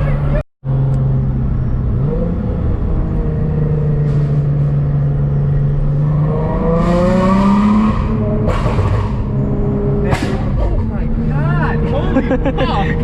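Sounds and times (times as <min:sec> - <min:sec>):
car engine revving: 0:00.6 - 0:13.0.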